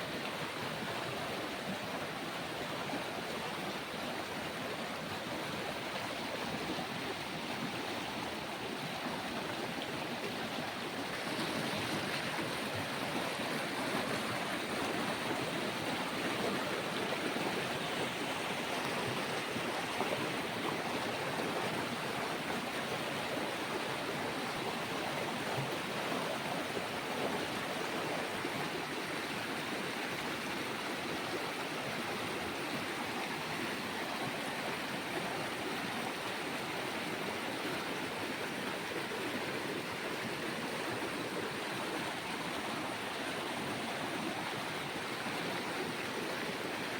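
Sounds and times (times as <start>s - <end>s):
stream of water rushing: 0.0s - 46.9s.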